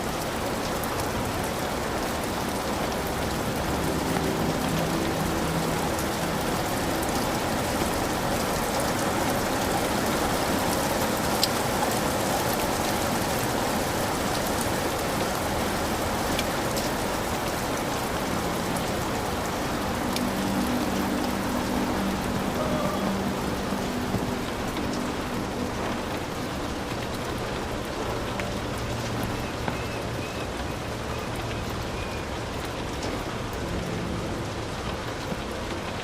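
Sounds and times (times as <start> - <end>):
heavy rain falling: 0.0 - 36.0.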